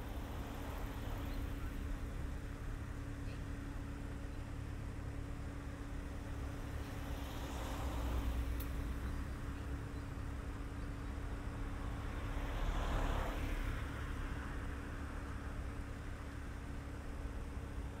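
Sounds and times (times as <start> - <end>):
low traffic hum: 0.0 - 18.0
vehicles passing: 0.0 - 18.0.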